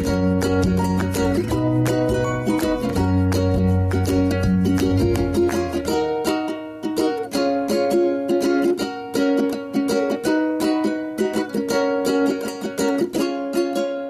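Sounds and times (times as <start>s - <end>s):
plucked string tune: 0.0s - 14.0s.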